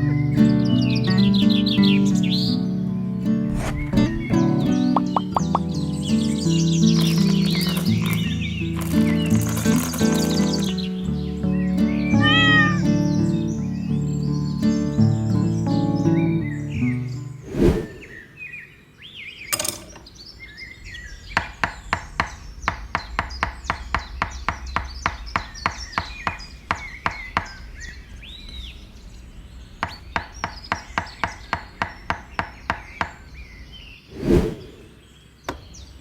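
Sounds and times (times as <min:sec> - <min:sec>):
birds chirping faintly: 0:00.0 - 0:36.0.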